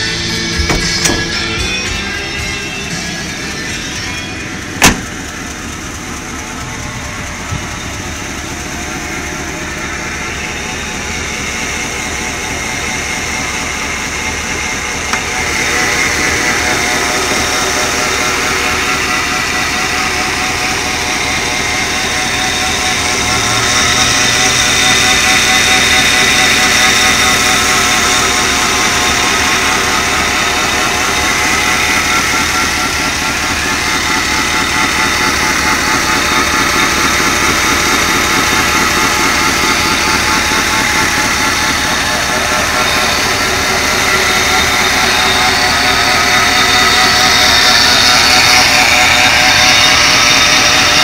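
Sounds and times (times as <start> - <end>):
pickup truck engine idling: 0.0 - 51.0.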